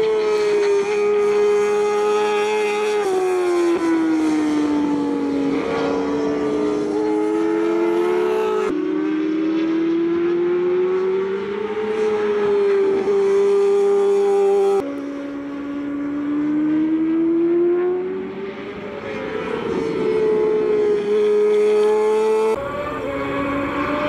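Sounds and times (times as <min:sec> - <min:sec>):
racing motorcycle engines revving: 0:00.0 - 0:24.0.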